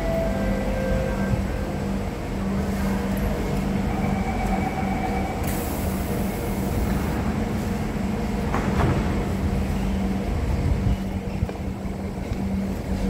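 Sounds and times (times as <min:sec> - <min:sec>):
train equipment humming: 0:00.0 - 0:13.0.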